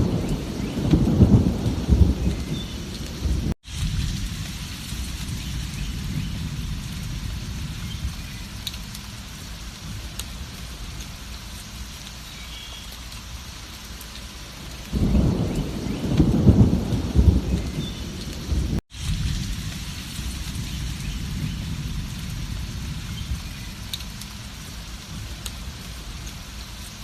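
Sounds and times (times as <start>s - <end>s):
rolling thunder: 0.0s - 10.9s, 14.8s - 26.3s
heavy rain: 0.0s - 27.0s.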